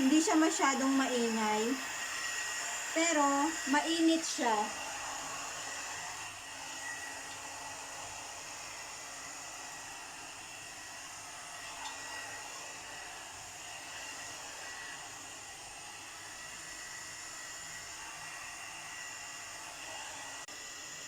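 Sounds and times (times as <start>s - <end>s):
hair blower rushing air: 0.0s - 21.0s.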